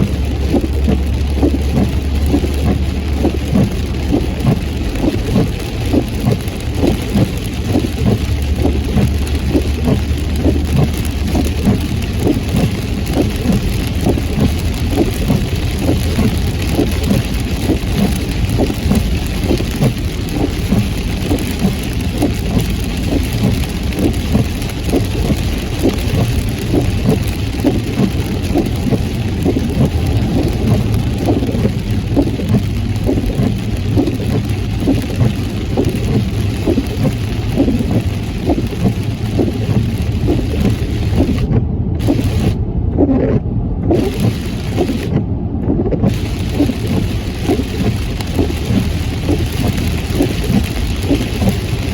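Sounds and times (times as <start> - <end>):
heavy rain on a car: 0.0 - 51.9
low rumble: 0.0 - 51.9
road and engine noise: 0.0 - 51.9.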